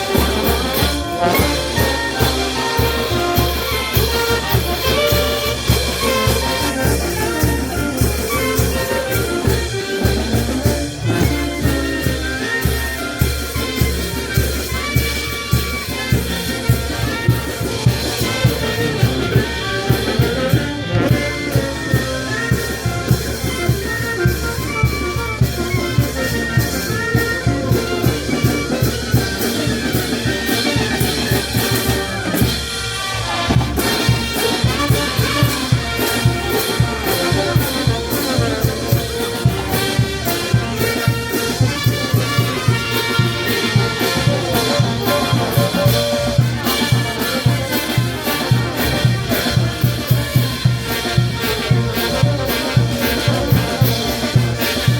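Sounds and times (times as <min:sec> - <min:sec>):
steady drum beat: 0:00.0 - 0:54.9
trumpets and trombones: 0:00.0 - 0:54.9.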